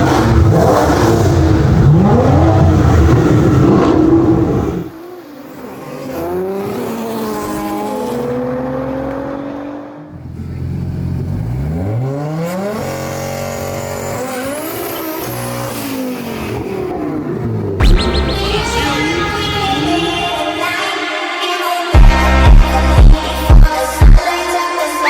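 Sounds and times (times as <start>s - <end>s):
car engine accelerating hard: 0.0s - 20.7s.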